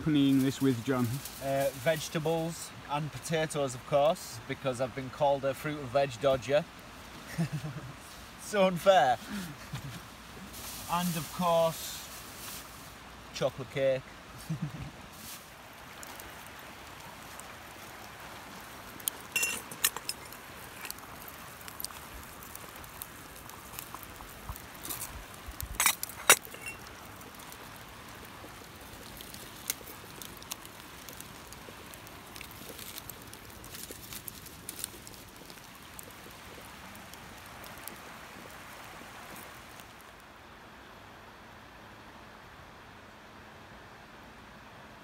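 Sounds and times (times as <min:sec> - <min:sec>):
fire hissing: 0:00.0 - 0:05.0, 0:05.6 - 0:40.2
campfire crackling and popping: 0:00.0 - 0:40.5.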